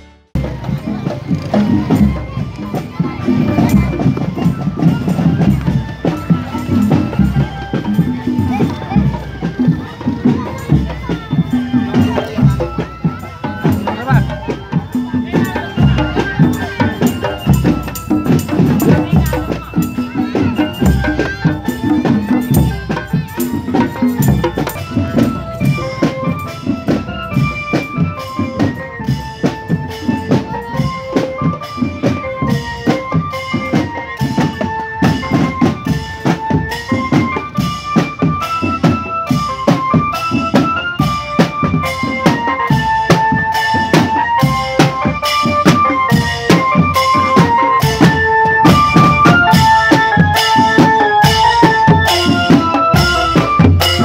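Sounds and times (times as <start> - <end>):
bass and tenor drums playing: 0.0 - 54.0
small keyboard melody: 3.0 - 54.0.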